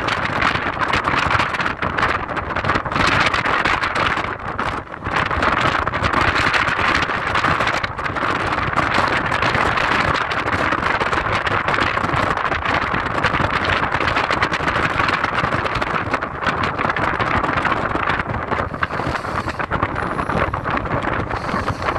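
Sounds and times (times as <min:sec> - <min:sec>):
road and tyre noise: 0:00.0 - 0:21.9.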